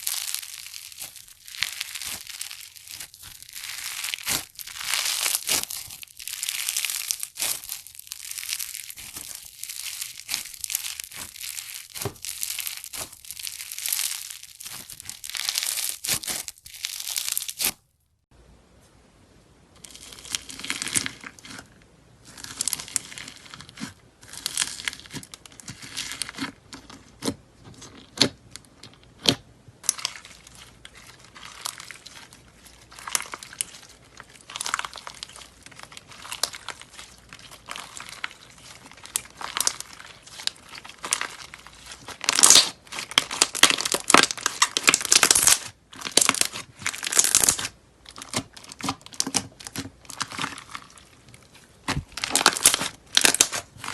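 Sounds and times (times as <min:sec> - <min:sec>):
slime crackling and crinkling: 0:00.0 - 0:18.2, 0:19.8 - 0:53.9.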